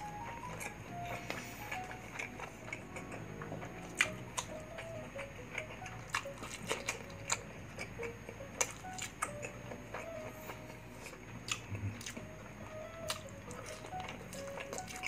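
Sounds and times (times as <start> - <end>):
faint background music: 0.0 - 15.0
chewing and lip smacking: 0.1 - 12.3, 13.0 - 15.0.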